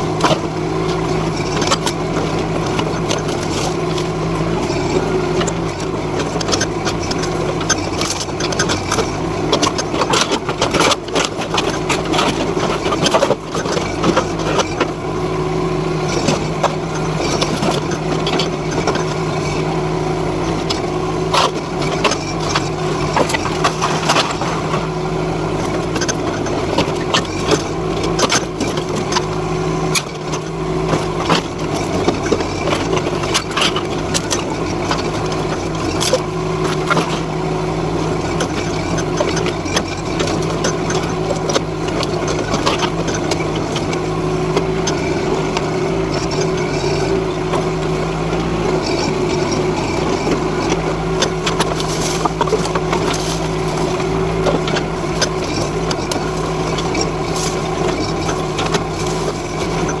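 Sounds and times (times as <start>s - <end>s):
excavator engine running: 0.0s - 60.0s.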